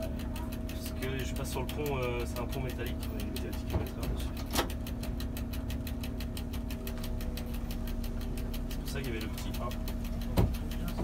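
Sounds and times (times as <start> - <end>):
diesel railcar engine drone: 0.0 - 11.0
fast even ticking: 0.0 - 11.0.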